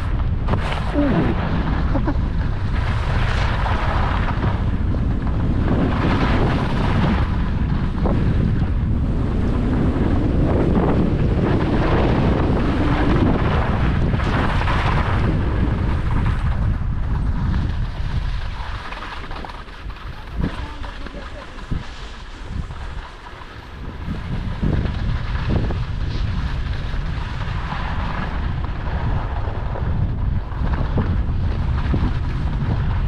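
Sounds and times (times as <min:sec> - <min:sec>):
skis scraping on snow: 0:00.0 - 0:33.0
wind buffeting microphone: 0:00.0 - 0:33.0.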